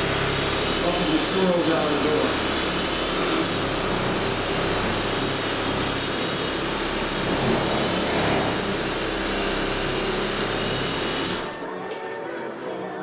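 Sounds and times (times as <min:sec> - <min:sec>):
electric buffer running: 0:00.0 - 0:11.7.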